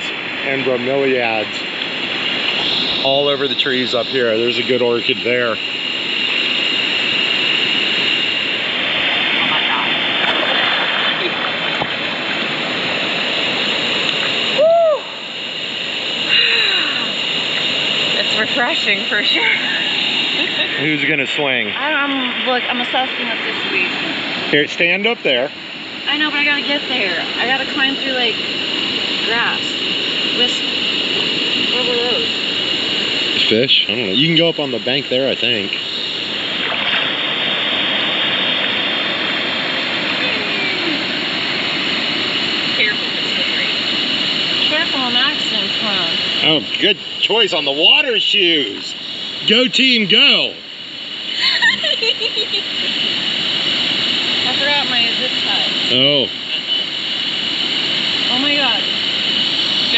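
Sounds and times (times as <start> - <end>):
waterfall rushing into pool: 0.0 - 59.9.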